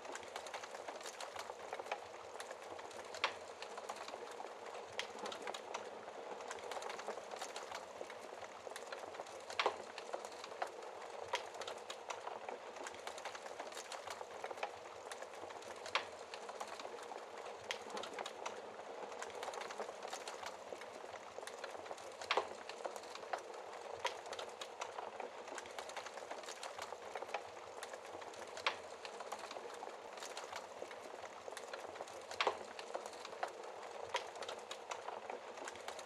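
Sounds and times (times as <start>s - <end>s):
fire crackling in a fireplace: 0.0s - 36.0s
fire popping: 0.1s - 36.0s.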